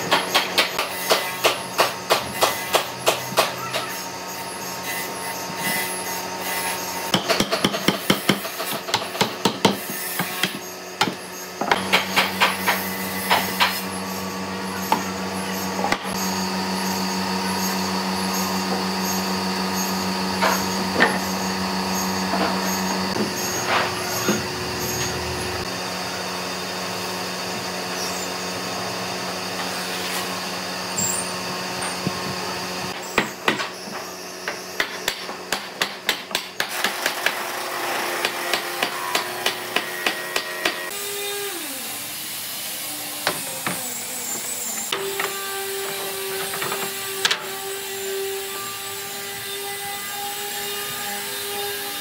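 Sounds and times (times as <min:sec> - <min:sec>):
workshop hum: 0:00.0 - 0:52.0.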